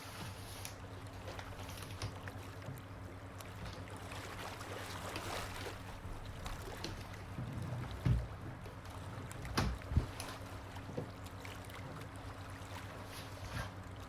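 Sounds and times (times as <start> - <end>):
soft wash of water: 0.0 - 14.0
water drips and splashes: 0.5 - 13.2.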